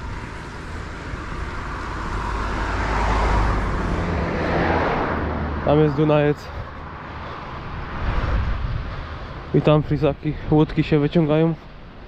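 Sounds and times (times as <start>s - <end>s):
road vehicle passing by: 0.0s - 12.0s.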